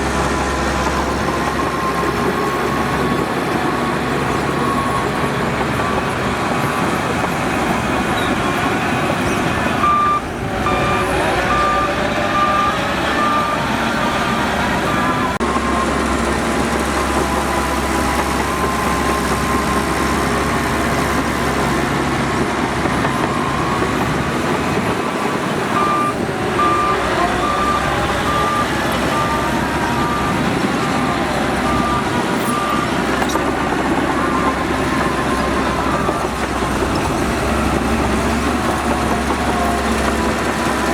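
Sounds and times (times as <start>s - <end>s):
heavy machinery running: 0.0s - 40.9s
reversing alarm beeping: 0.4s - 7.0s, 9.8s - 21.7s, 23.0s - 39.7s.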